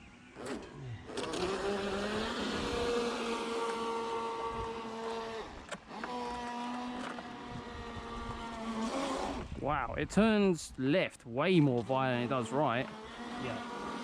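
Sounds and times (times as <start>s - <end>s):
rc boat motor whining: 0.0s - 9.7s, 11.6s - 14.0s.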